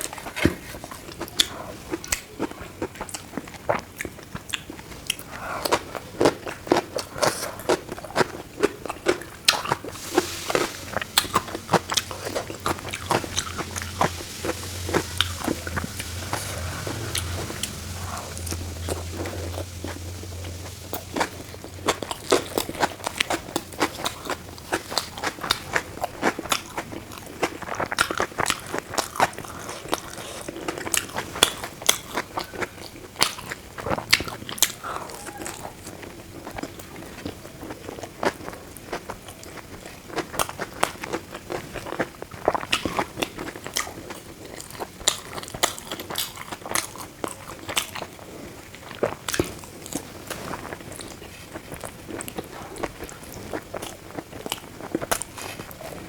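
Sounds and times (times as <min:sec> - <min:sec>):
person chewing food crunchily: 0:00.0 - 0:56.0.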